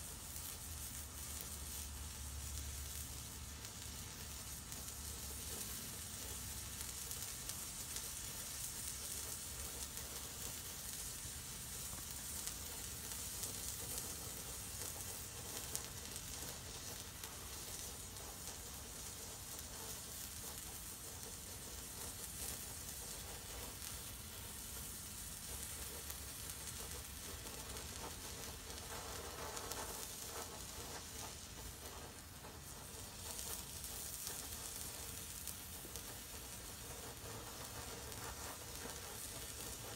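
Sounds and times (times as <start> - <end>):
flare burning with hiss: 0.0 - 39.9
small crackles: 0.0 - 39.9.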